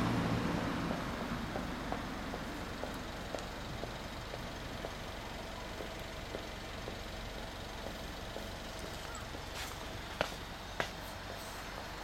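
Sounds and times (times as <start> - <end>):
motorcycle engine idling: 1.0 - 12.0.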